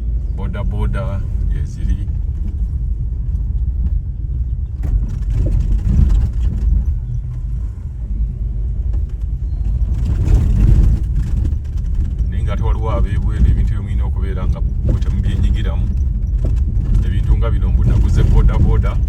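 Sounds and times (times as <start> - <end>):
road noise: 0.0 - 19.0
vehicle engine rumble: 0.0 - 19.0.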